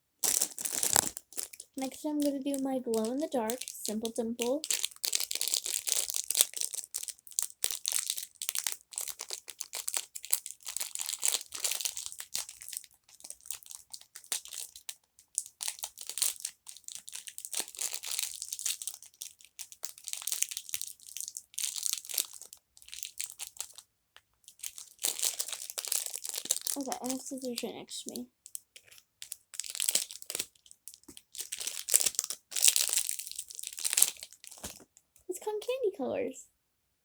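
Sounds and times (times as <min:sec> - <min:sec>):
plastic packaging crinkling: 0:00.2 - 0:35.0.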